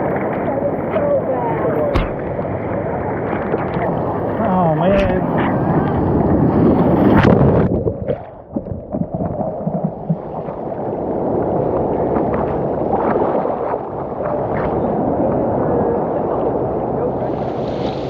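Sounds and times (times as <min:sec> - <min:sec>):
water sloshing and gurgling: 0:00.0 - 0:18.0.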